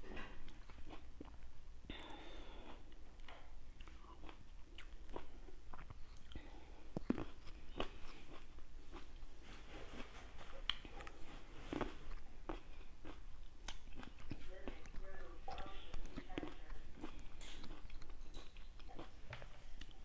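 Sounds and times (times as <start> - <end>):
low steady hum: 0.0 - 20.0
person chewing fruit: 0.0 - 20.0.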